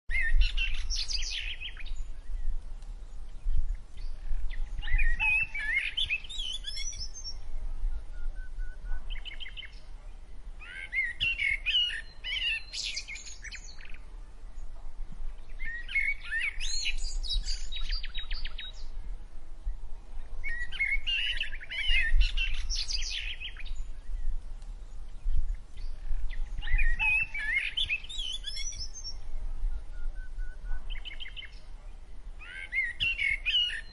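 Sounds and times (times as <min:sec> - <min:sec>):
songbird chirps and trills: 0:00.1 - 0:33.9.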